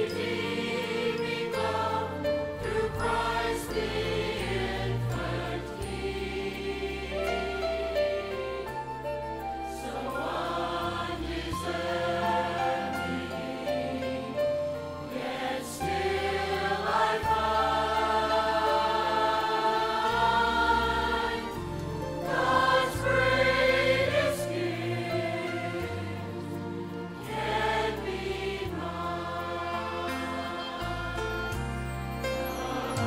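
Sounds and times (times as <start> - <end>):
choir singing in harmony: 0.0 - 33.0.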